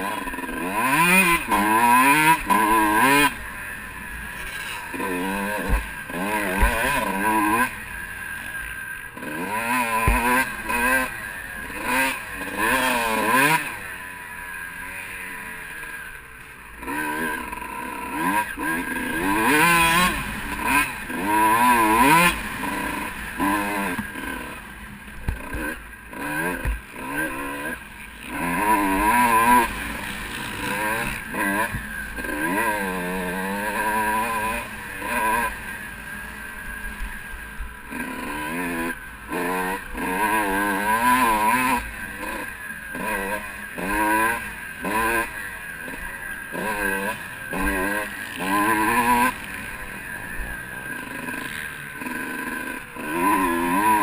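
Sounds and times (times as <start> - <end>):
motocross engine revving: 0.0 - 54.0.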